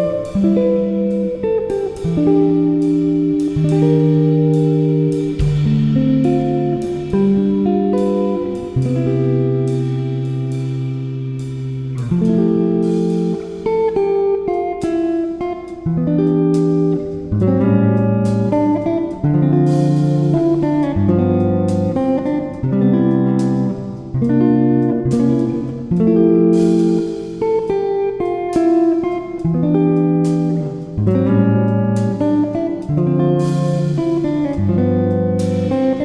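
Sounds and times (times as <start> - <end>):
strummed guitar chords: 0.0 - 36.0.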